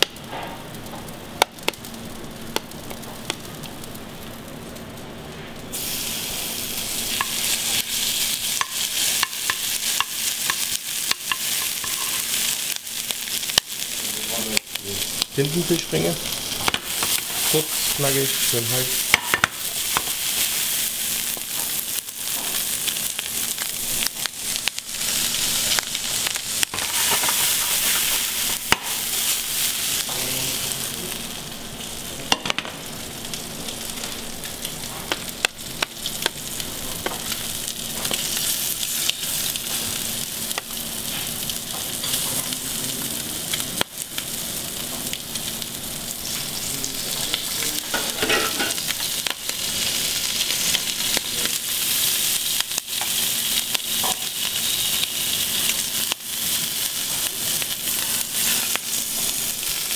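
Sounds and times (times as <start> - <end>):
squid sizzling in a pan: 0.0 - 59.9.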